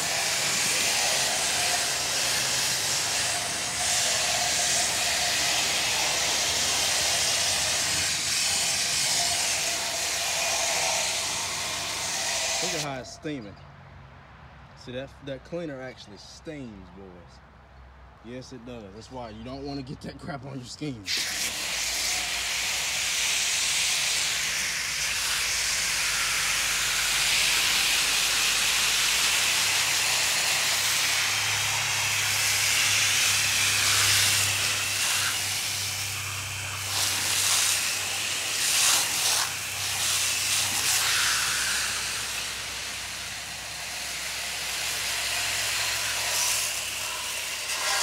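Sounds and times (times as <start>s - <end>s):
hose spraying water: 0.0s - 13.0s, 21.1s - 48.0s.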